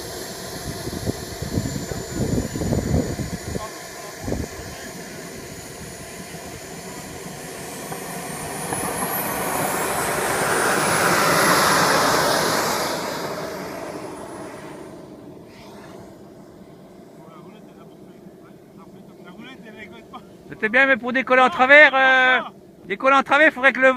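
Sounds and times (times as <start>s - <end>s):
jet engine whining with whistle: 0.0s - 23.9s.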